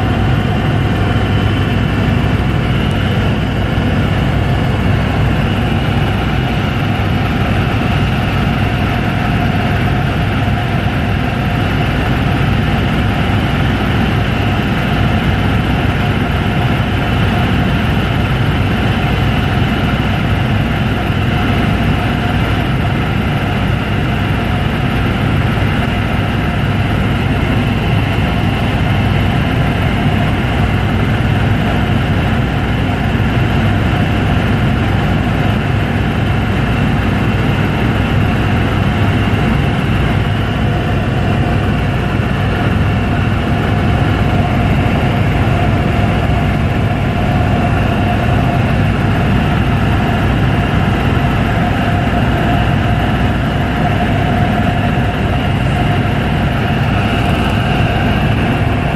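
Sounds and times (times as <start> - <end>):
helicopter engine and rotor: 0.0 - 58.9.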